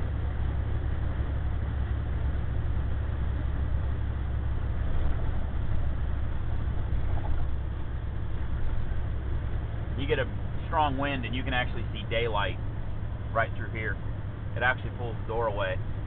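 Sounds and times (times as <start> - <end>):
road noise: 0.0 - 16.0
truck engine hum: 0.0 - 16.0.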